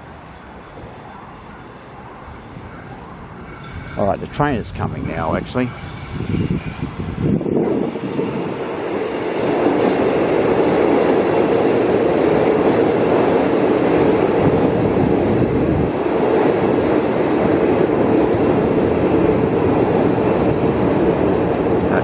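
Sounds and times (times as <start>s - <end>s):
train wheels rumbling on rails: 1.9s - 22.0s.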